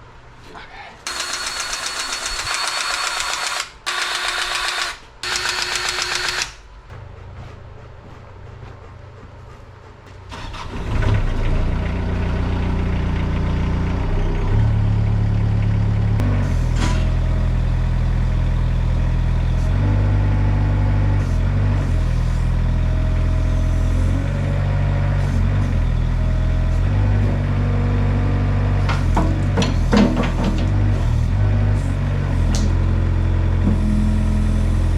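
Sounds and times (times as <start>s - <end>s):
machine engine running: 1.1s - 34.9s.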